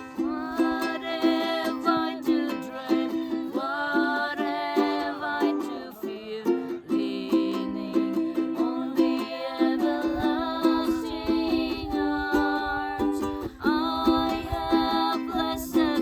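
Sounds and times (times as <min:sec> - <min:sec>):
strummed strings: 0:00.0 - 0:16.0
voices singing a hymn: 0:00.0 - 0:16.0.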